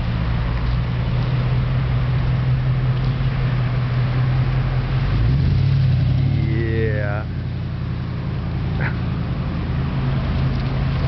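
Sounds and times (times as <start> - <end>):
engine running low and even: 0.0 - 11.0.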